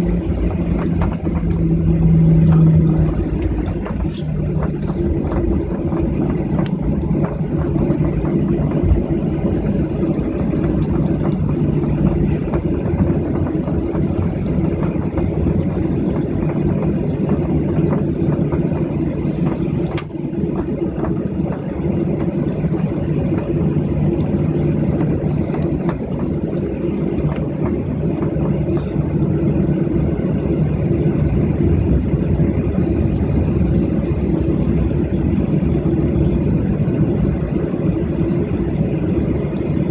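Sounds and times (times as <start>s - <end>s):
airliner cabin hum: 0.0s - 39.9s.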